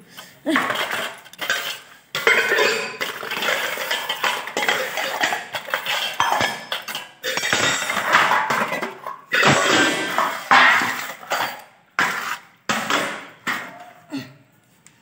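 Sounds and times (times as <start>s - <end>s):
steel dishes clattering: 0.1s - 14.0s.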